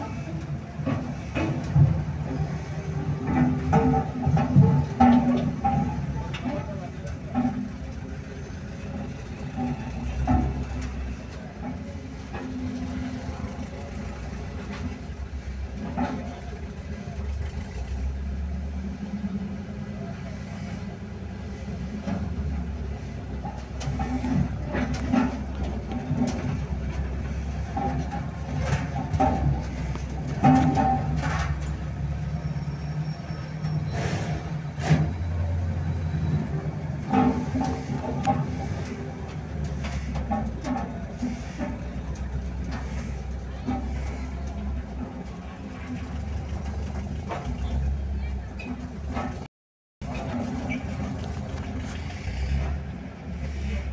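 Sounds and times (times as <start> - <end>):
heavy engine running: 0.0 - 53.9.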